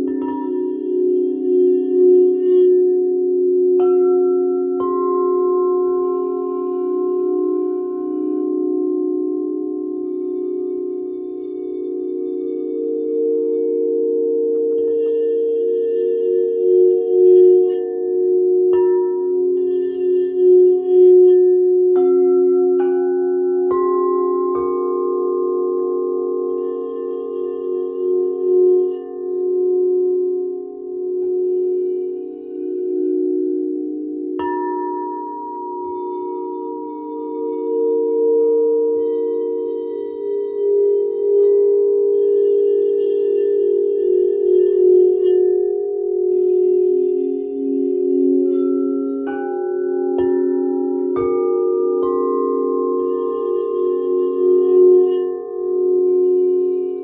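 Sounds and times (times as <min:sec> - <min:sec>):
singing bowl pulsing low tone: 0:00.0 - 0:57.0
struck crystal bowls ringing: 0:00.0 - 0:57.0.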